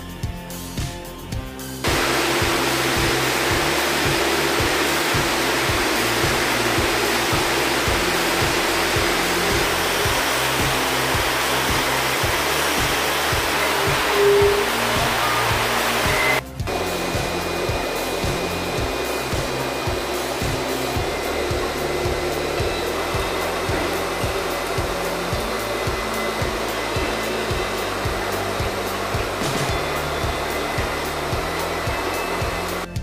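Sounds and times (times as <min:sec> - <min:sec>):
music with bass and beat: 0:00.0 - 0:33.0
rushing paper roller machine: 0:01.8 - 0:33.0.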